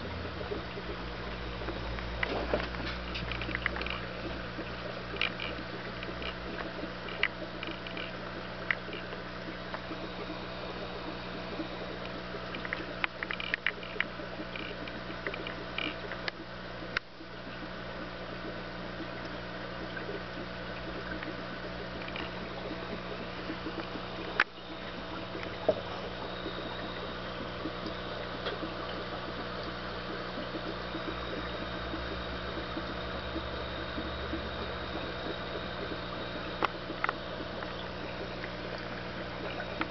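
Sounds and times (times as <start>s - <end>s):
aquarium filter humming: 0.0s - 39.9s
water trickling and bubbling: 0.0s - 39.9s.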